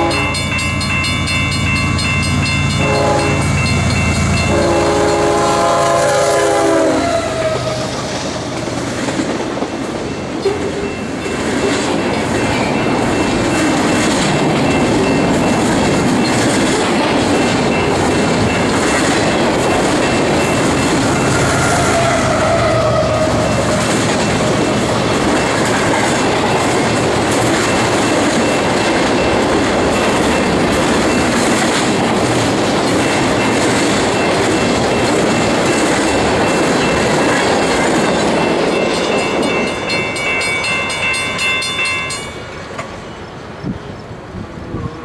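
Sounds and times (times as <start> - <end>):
locomotive passing: 0.0 - 45.0
train wheels on rails: 0.0 - 45.0.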